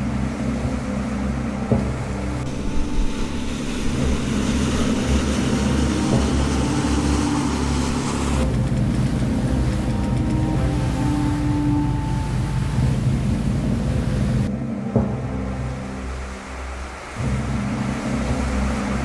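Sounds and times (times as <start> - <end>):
ship engine rumbling: 0.0 - 19.0
water noise: 0.0 - 19.0.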